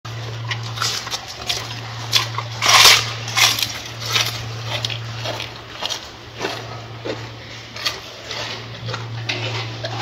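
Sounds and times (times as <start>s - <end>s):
gorilla chewing lettuce: 0.1s - 10.0s.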